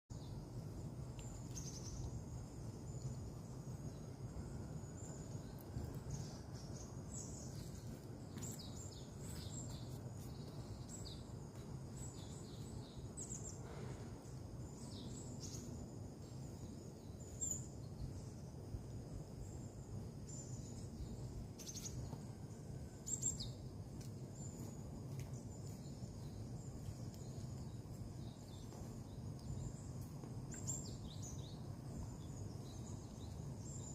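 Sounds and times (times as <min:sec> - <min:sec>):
small birds chirping: 0:00.1 - 0:33.9
low background rumble: 0:00.2 - 0:33.9.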